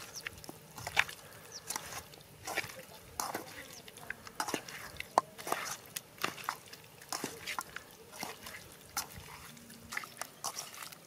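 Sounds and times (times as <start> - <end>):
wet squelches of mixing meat: 0.0 - 11.0.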